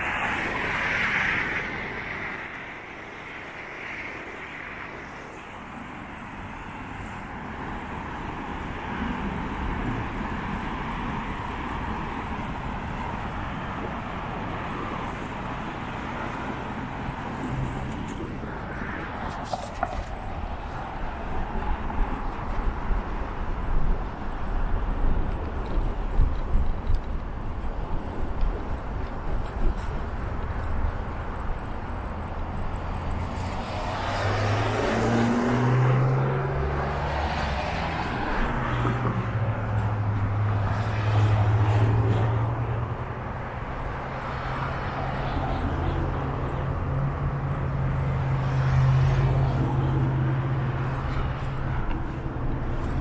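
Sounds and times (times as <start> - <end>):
cars passing: 0.0 - 53.0
road traffic hum: 0.0 - 53.0.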